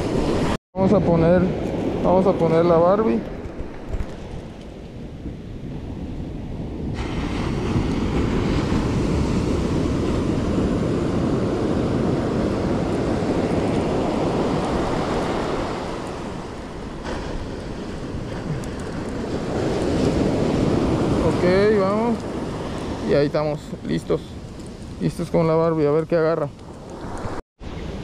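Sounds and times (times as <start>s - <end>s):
ocean surf washing onto beach: 0.0s - 28.0s
wind on microphone: 0.0s - 28.0s.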